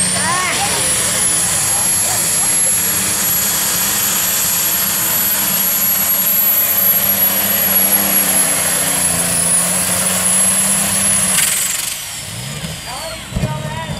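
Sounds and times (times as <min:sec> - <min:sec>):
tractor engine running flat out: 0:00.0 - 0:13.9.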